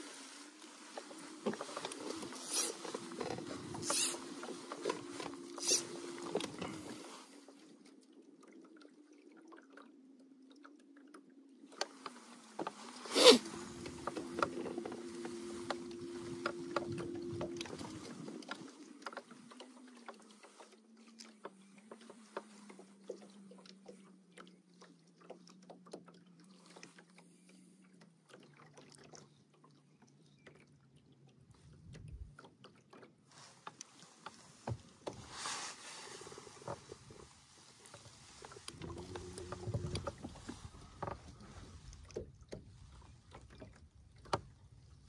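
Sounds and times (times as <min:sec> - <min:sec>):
water lapping on hull: 0:00.0 - 0:45.0.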